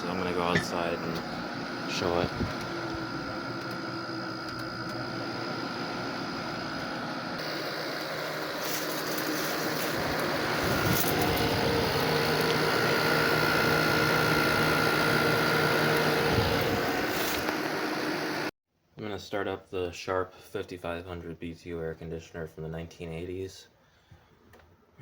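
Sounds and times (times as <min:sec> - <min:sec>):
air conditioner humming: 0:00.0 - 0:23.5.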